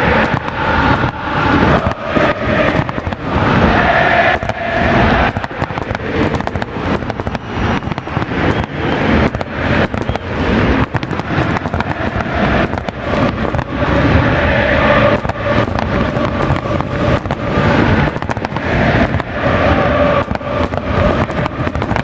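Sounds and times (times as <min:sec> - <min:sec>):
fireworks banging and crackling: 0:00.0 - 0:22.0
loud stadium crowd: 0:00.0 - 0:22.0.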